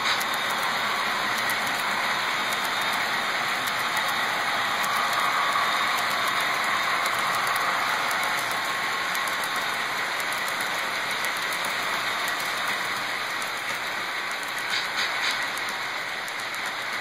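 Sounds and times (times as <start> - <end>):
light clicks on track: 0.0 - 17.0
model train wheels whirring: 0.0 - 17.0.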